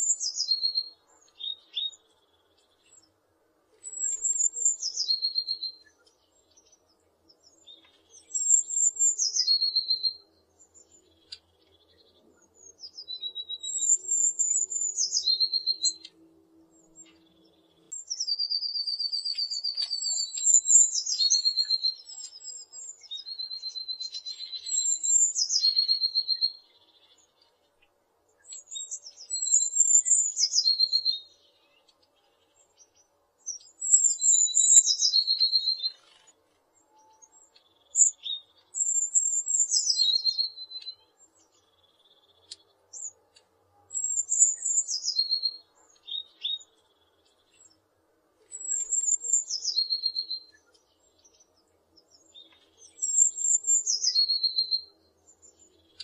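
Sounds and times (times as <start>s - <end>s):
bird singing with trill: 0.0s - 3.1s, 3.8s - 27.7s, 28.4s - 47.8s, 48.4s - 56.0s.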